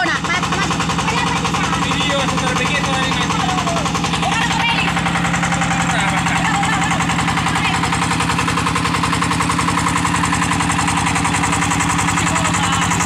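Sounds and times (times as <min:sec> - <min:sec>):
water pump engine running: 0:00.0 - 0:13.0.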